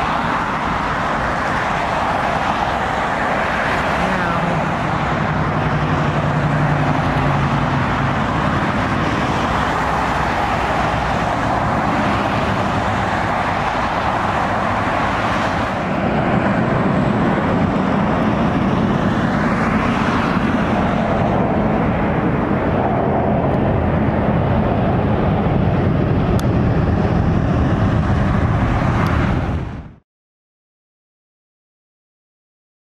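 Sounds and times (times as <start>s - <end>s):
jet engine whine: 0.0s - 30.0s
jet engines of landing airliners: 0.0s - 30.0s.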